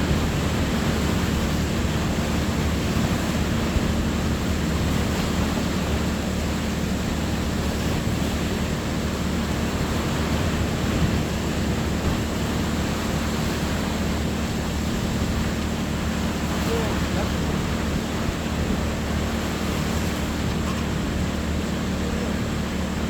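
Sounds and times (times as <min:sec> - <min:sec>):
sea surf rushing: 0:00.0 - 0:23.0
wind on microphone: 0:00.0 - 0:23.0.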